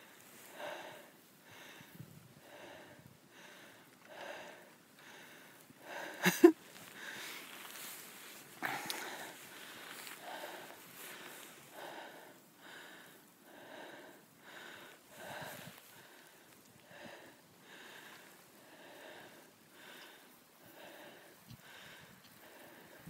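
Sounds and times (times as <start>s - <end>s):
rhythmic breathing: 0.0s - 23.0s.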